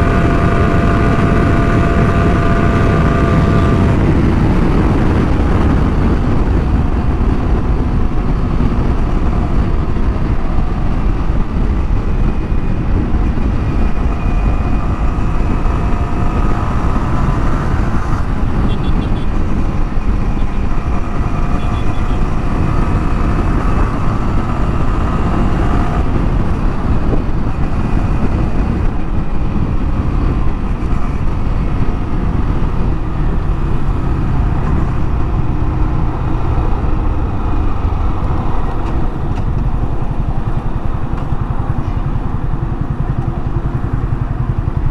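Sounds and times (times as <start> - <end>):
motorcycle engine running: 0.0 - 44.9
wind rush on microphone: 0.0 - 44.9.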